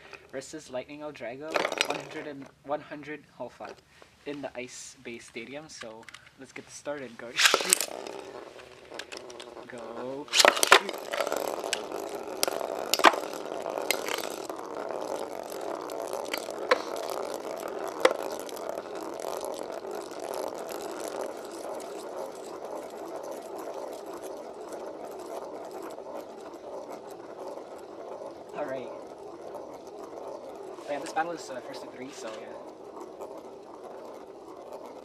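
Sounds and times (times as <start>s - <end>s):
spinning tops clicking together: 0.0s - 0.5s, 1.4s - 2.5s, 5.1s - 35.0s
spinning tops whirring: 0.0s - 35.0s.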